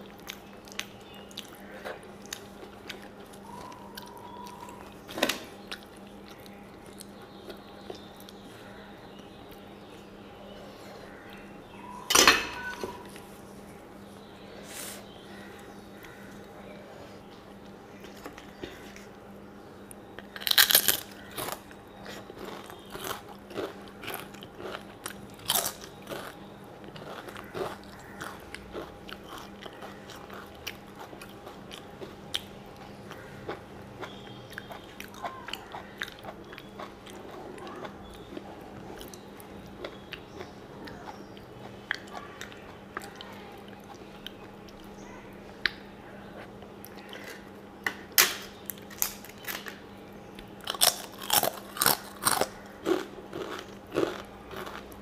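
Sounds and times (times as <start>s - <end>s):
soft chewing: 0.0s - 12.0s, 12.6s - 47.7s, 48.6s - 55.0s.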